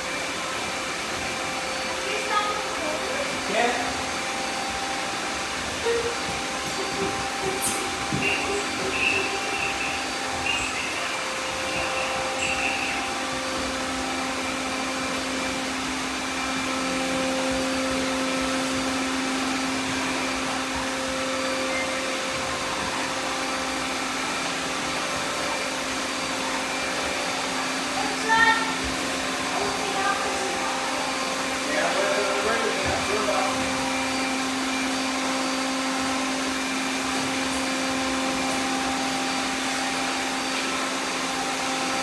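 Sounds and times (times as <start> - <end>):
robot vacuums whirring hum: 0.0 - 42.0.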